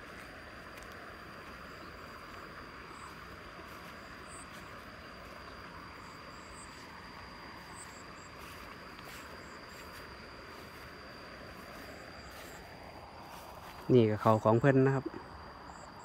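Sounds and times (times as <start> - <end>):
insect chorus hiss: 0.0 - 16.0.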